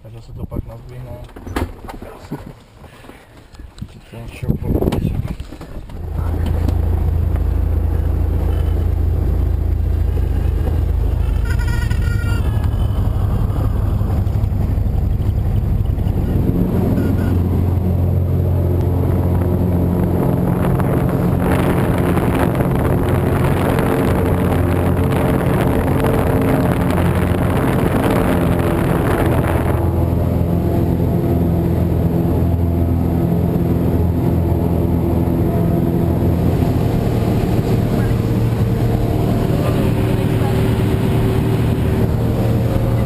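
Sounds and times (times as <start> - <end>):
propeller plane engine droning: 0.5 - 43.0.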